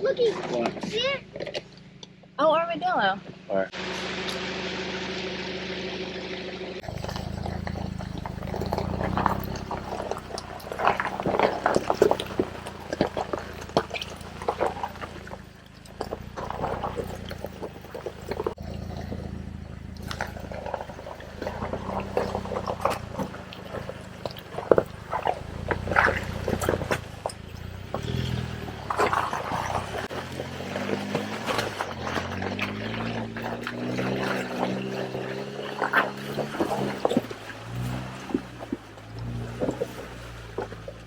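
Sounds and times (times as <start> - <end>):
vehicle engine running low: 0.0 - 41.0
creaks squeaks and knocks: 6.8 - 41.0.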